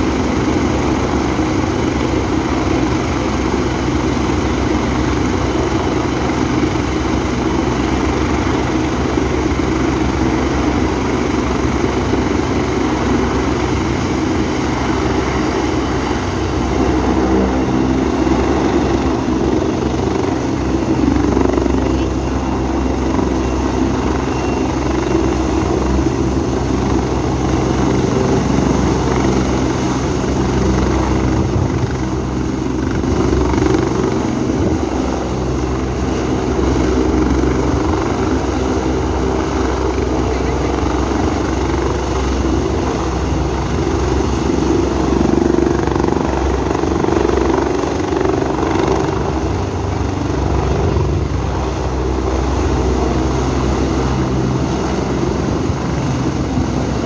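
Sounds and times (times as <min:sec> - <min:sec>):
helicopter hovering and landing: 0:00.0 - 0:57.0.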